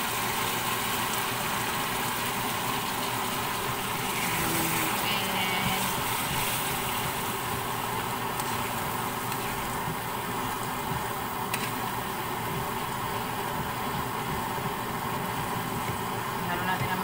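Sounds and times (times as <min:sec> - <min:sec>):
food sizzling in a wok: 0:00.0 - 0:16.8.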